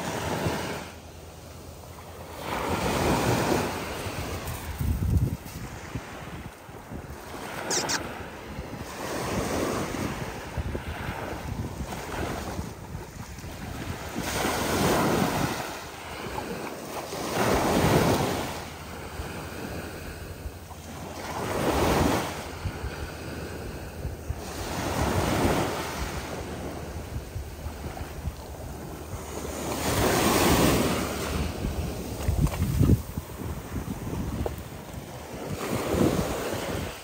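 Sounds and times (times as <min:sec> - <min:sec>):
small waves washing on shore: 0:00.0 - 0:37.0.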